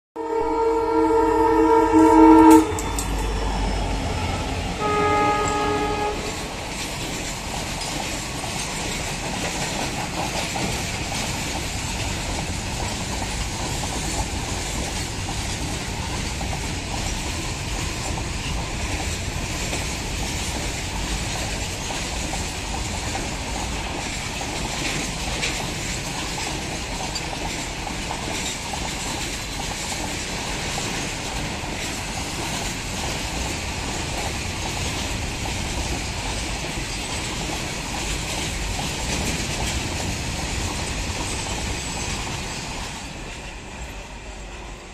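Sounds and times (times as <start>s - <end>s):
freight train wheels on rails: 0.2s - 44.9s.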